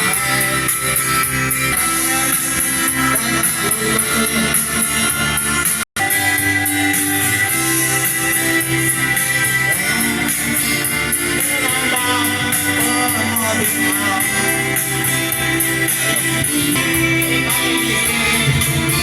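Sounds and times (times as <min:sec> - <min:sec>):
song with guitar and steady beat: 0:00.0 - 0:19.0.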